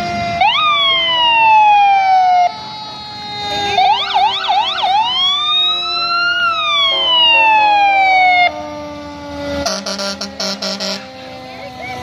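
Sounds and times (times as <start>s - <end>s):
fire truck siren: 0.0s - 12.0s.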